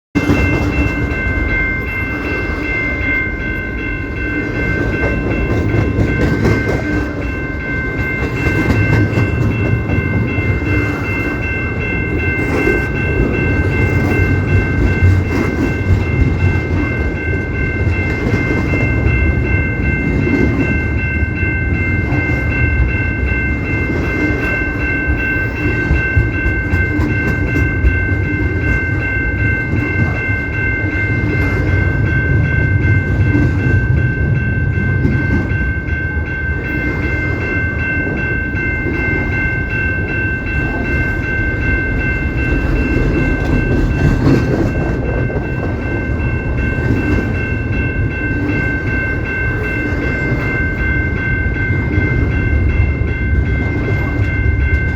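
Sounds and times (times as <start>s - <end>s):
train rumbling: 0.2s - 54.9s.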